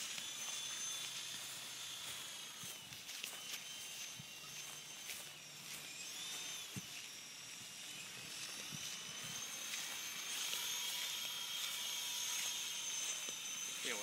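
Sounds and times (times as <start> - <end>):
rc helicopter motors whining: 0.0 - 14.0.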